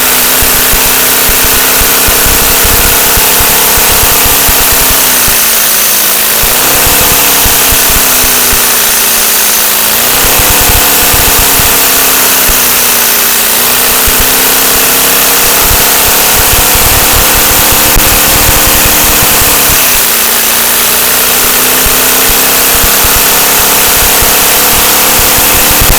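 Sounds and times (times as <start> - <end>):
rush of suction air: 0.0 - 25.9
small engine clattering rapidly: 0.0 - 25.9
whine changing pitch: 0.0 - 25.9.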